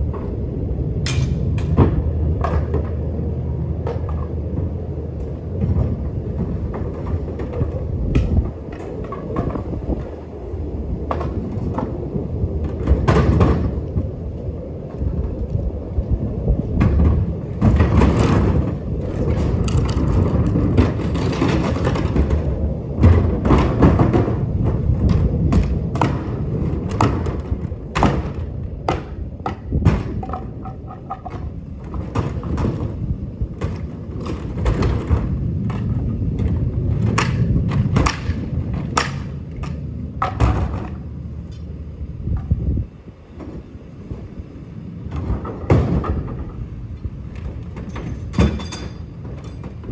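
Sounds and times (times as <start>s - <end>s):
cart knocks and thuds: 0.0s - 41.7s, 43.3s - 49.9s
plastic cart wheels rumbling: 0.0s - 49.9s.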